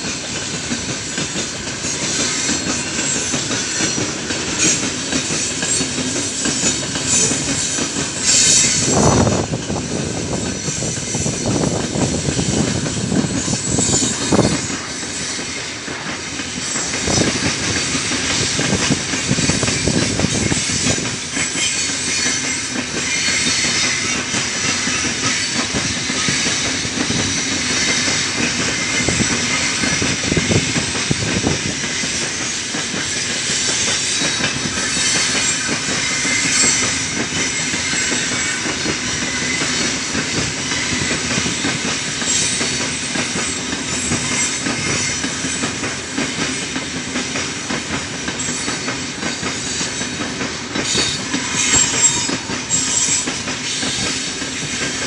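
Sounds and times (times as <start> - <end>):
steel wheels clattering on rails: 0.0 - 55.0.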